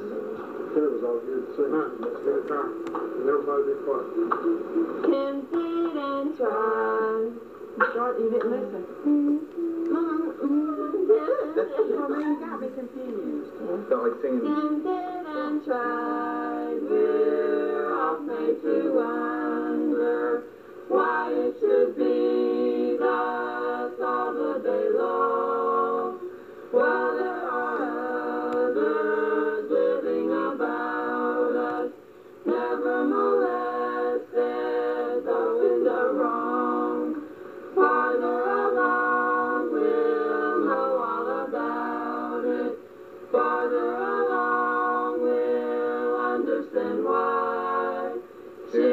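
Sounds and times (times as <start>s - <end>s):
group singing a cappella: 4.2s - 7.9s, 9.0s - 12.2s, 14.3s - 48.9s.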